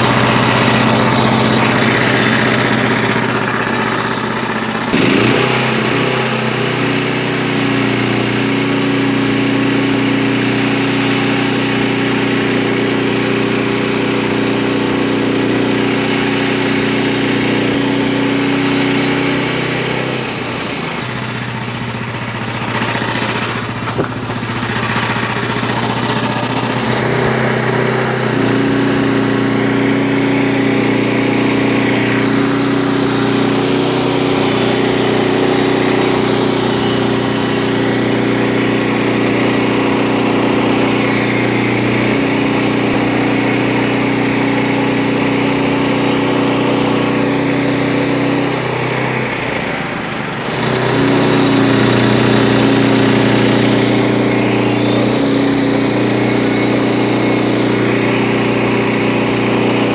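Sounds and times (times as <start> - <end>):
band saw cutting log: 0.0 - 59.9
small gas engine running: 0.0 - 59.9.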